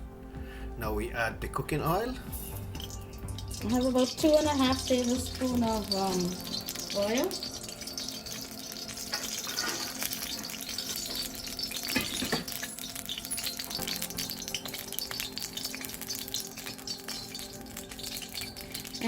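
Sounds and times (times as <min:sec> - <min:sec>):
cooking oil crackling: 0:01.8 - 0:19.0.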